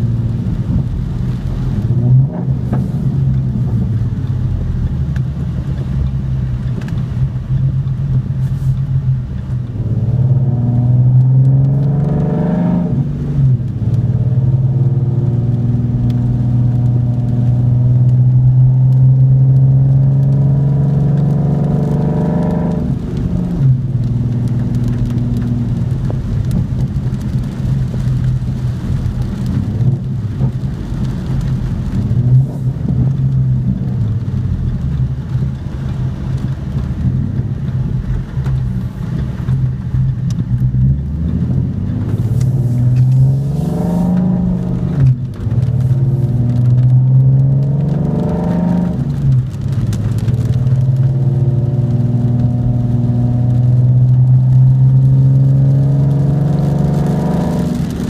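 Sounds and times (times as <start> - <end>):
car engine accelerating: 0.0 - 58.0
rain tapping on car: 0.0 - 58.0.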